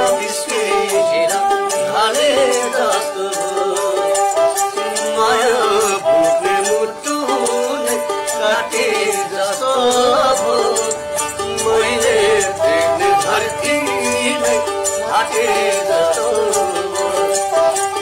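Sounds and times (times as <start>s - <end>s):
man singing: 0.0s - 18.0s
rattling percussion beat: 0.0s - 18.0s.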